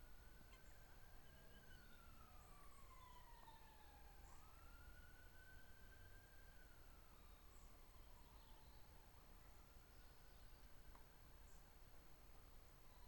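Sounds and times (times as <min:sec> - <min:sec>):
faint siren wailing: 0:00.0 - 0:11.6.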